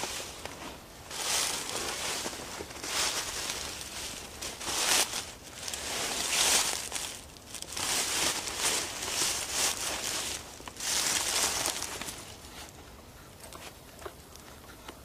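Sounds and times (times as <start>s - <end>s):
footsteps on dry leaves: 0.0s - 12.7s.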